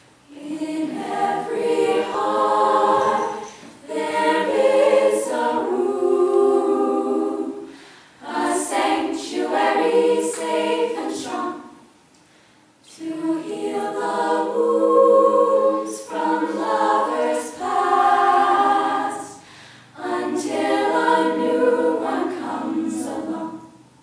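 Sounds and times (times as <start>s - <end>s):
women singing in harmony: 0.3s - 11.9s, 12.8s - 23.8s.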